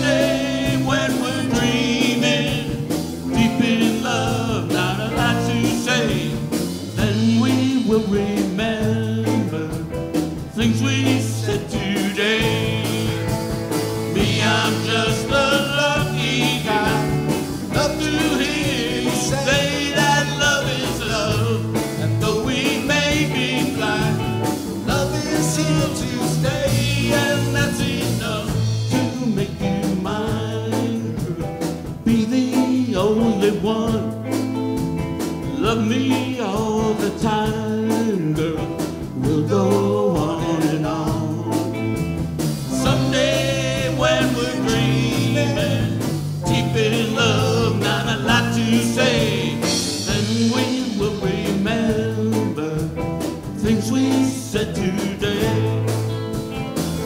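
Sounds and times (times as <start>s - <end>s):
man singing: 0.0s - 34.3s, 35.4s - 42.0s, 42.7s - 56.0s
live band playing: 0.0s - 57.0s.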